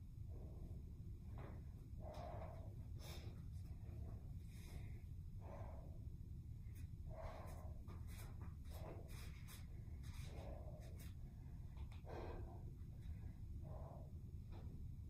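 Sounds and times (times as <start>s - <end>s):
woman breathing hard: 1.4s - 14.7s.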